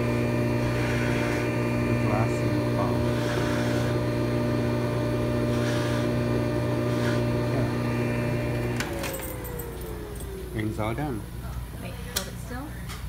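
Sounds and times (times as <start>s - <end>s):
polishing motor humming: 0.0s - 11.4s.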